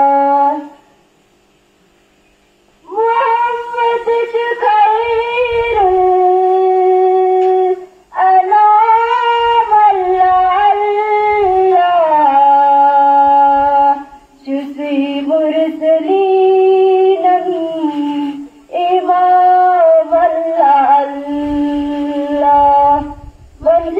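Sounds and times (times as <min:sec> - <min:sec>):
person chanting in a high voice: 0:00.0 - 0:00.8, 0:02.8 - 0:23.9.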